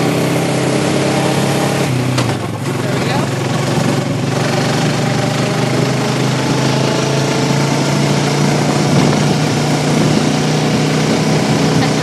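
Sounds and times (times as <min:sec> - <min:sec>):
atv engine under throttle: 0:00.0 - 0:12.0.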